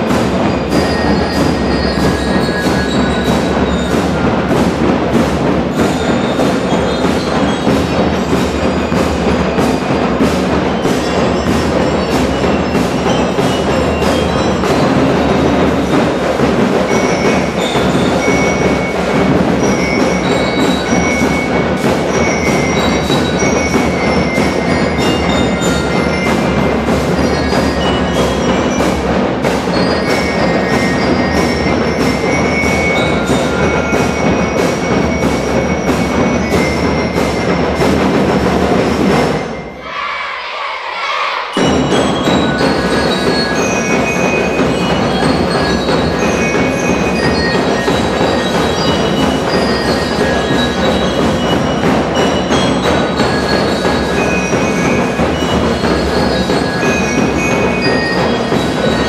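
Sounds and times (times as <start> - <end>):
bell lyres playing melody: 0.0 - 39.8, 41.5 - 59.0
marching drums beating: 0.0 - 59.0.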